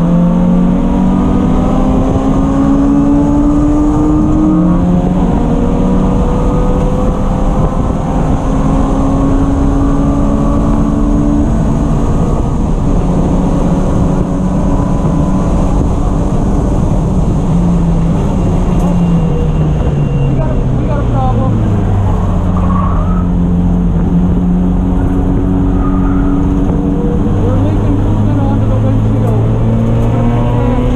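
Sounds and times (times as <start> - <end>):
race car engine running hard: 0.0 - 30.9.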